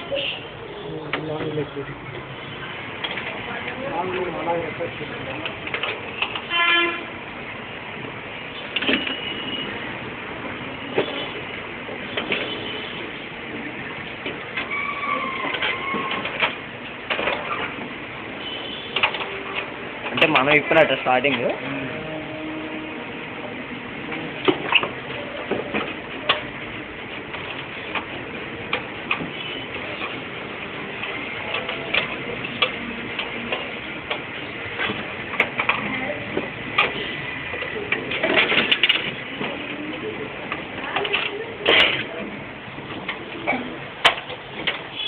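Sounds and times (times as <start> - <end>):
printer mechanical hum: 0.0 - 45.0
printer whine: 0.6 - 41.2.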